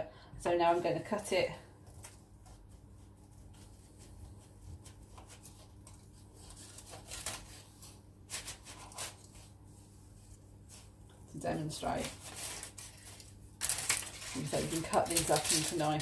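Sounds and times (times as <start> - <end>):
baking paper crinkling: 0.7 - 16.0.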